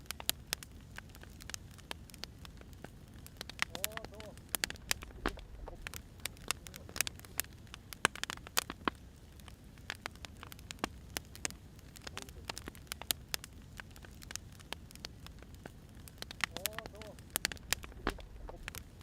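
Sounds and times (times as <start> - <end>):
firewood crackling: 0.0 - 19.0
low background noise: 0.0 - 19.0.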